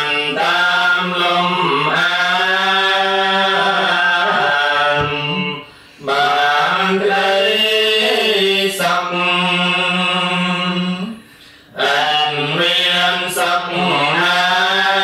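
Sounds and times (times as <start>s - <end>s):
monks chanting: 0.0s - 15.0s.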